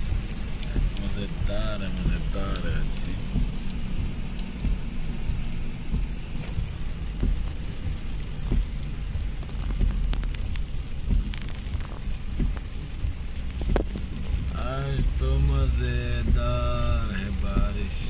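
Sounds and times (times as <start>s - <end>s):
car driving on wet road: 0.0s - 18.0s
heavy rain on car windscreen: 0.0s - 18.0s
sharp taps of raindrops: 0.0s - 18.0s.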